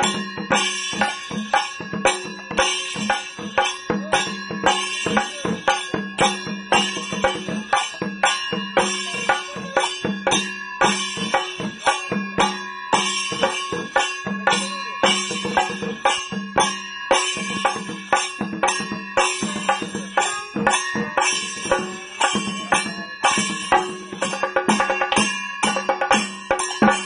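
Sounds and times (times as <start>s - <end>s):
bright ringing: 0.0s - 27.0s
drums beaten with sticks: 0.0s - 27.0s.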